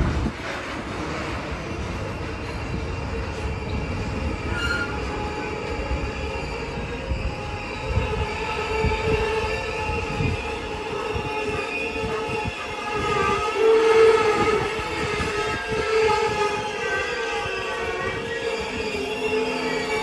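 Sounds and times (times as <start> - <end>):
train rumbling on tracks: 0.0 - 20.0.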